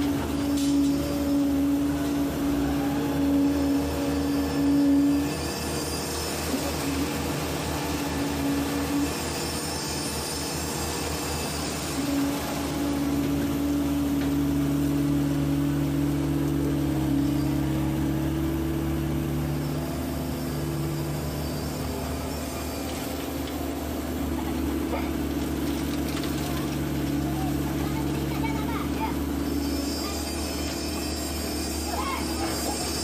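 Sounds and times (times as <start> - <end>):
excavator diesel engine and hydraulics: 0.0 - 33.0.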